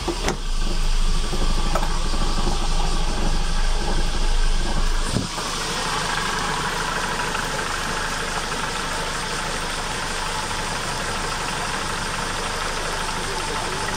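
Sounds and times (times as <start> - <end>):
outboard motor idling: 0.0 - 13.9.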